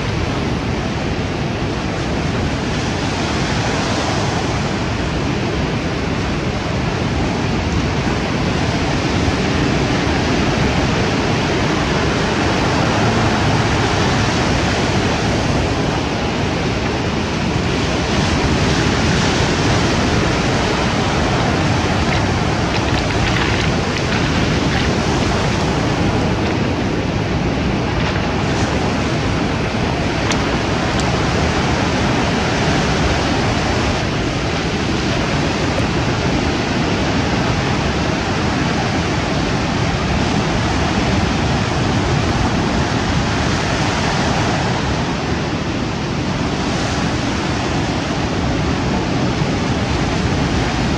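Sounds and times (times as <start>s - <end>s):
wind on microphone: 0.0s - 50.9s
surf breaking on cobble beach: 1.6s - 50.9s.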